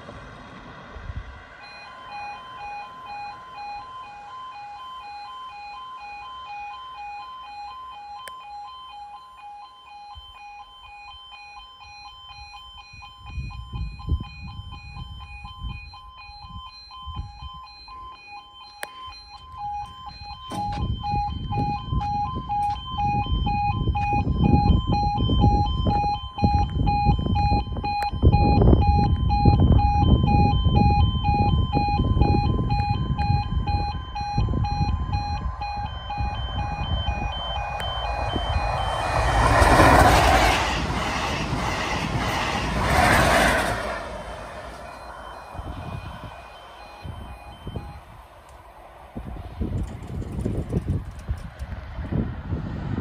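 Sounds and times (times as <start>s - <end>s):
level crossing alarm two-tone: 1.6s - 42.4s, 43.9s - 48.4s.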